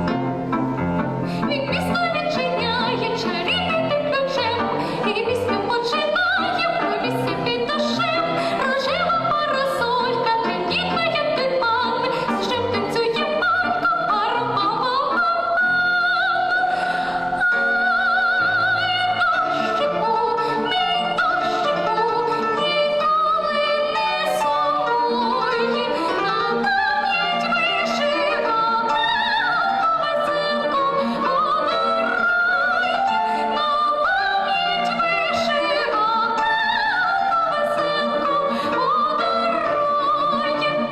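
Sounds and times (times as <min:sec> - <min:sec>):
instrumental accompaniment: 0:00.0 - 0:40.9
operatic high voice singing: 0:01.5 - 0:40.9.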